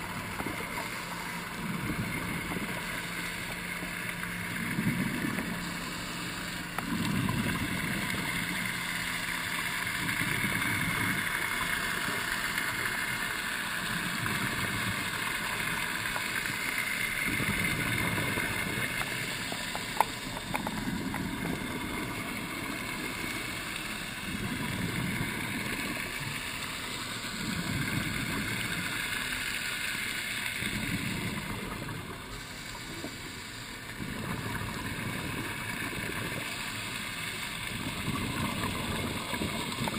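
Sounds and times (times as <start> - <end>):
diver exhaling bubbles: 0.0 - 12.0, 13.8 - 29.3, 30.5 - 33.2, 33.8 - 39.9
steady underwater hiss: 0.0 - 39.9.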